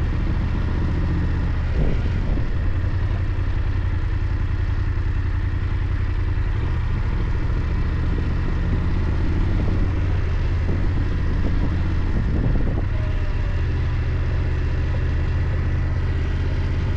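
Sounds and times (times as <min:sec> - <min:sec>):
motorcycle engine droning: 0:00.0 - 0:16.9
wind and road noise: 0:00.0 - 0:16.9.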